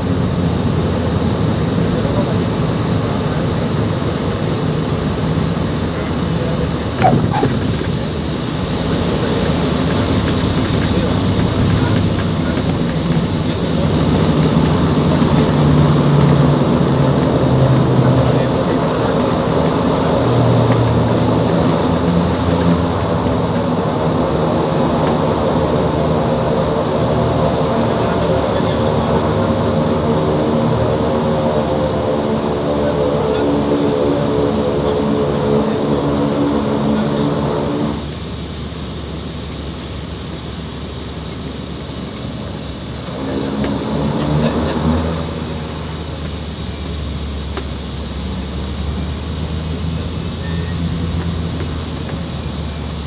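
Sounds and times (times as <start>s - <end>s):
turboprop engine drone: 0.0s - 53.0s.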